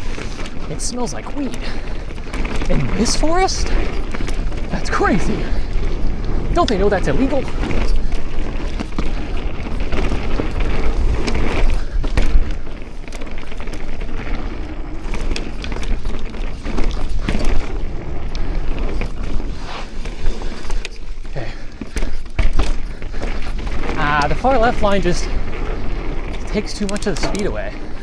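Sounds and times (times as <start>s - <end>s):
bike knocks and rattles: 0.0s - 28.0s
bike tyres on dirt: 0.0s - 28.0s.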